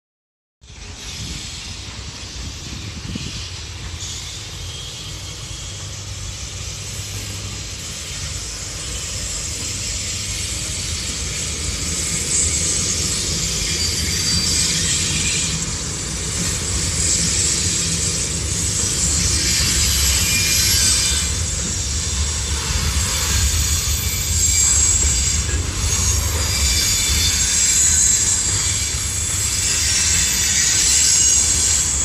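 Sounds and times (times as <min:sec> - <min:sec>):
train wheels rumbling on rails: 0:00.6 - 0:32.0
locomotive hiss: 0:00.7 - 0:32.0.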